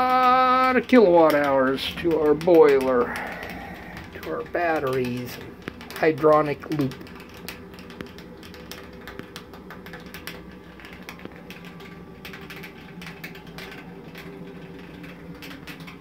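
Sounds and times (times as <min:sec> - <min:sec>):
small fan humming: 0:00.0 - 0:16.0
water boiling crackling: 0:00.0 - 0:16.0.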